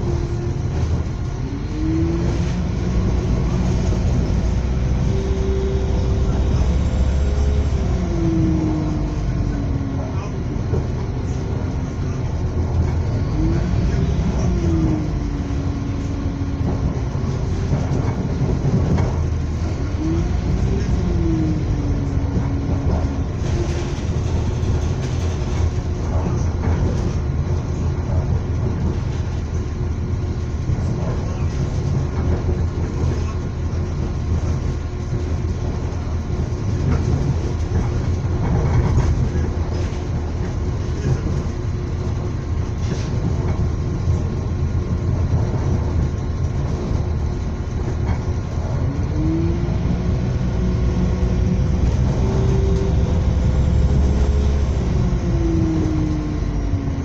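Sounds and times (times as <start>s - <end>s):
train motor whine: 0.0s - 27.9s, 28.6s - 57.0s
train wheels rumbling on rails: 0.0s - 57.0s.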